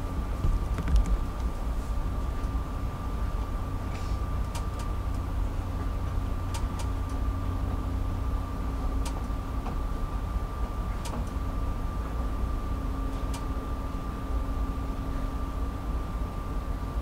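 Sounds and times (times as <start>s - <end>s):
ferry engine rumble and hum: 0.0s - 17.0s.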